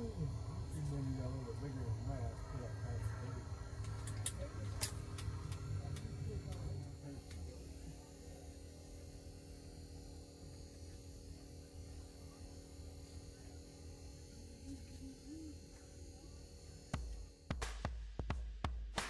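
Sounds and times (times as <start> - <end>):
low steady hum: 0.0 - 17.5.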